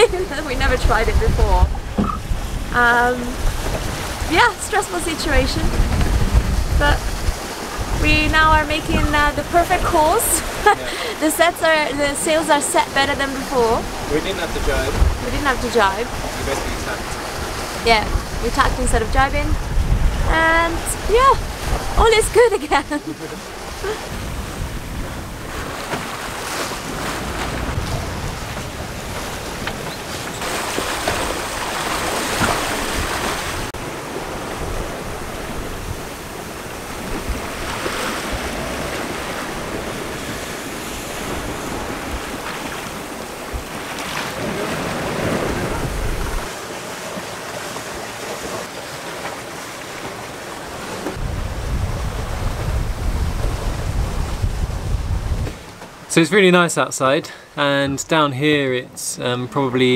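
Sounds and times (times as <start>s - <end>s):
wind buffeting microphone: 0.0s - 46.6s, 50.2s - 56.1s
water splashing past hull: 0.0s - 56.6s.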